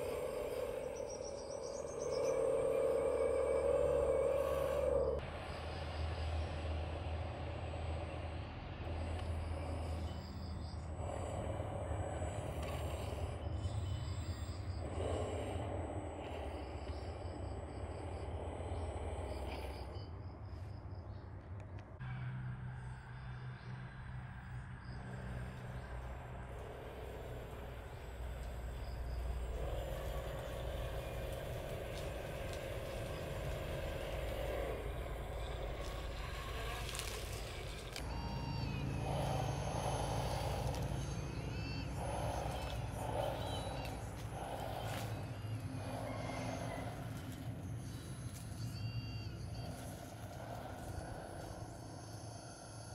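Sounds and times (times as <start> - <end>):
insects chirping: 0.0 - 21.8, 22.5 - 52.9.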